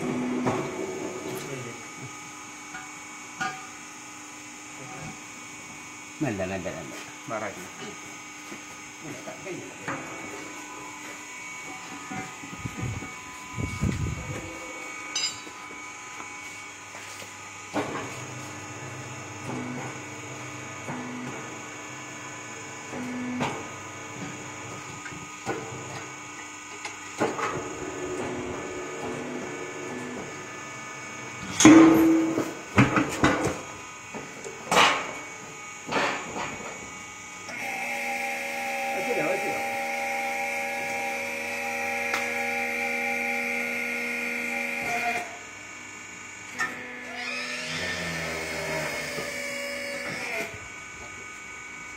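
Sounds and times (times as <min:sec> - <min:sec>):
tyre-changing machine motor hum: 0:08.1 - 0:51.9.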